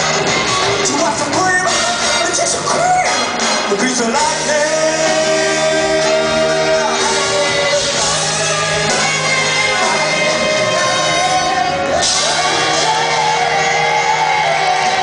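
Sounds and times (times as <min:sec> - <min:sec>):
live rock and roll band: 0:00.0 - 0:15.0.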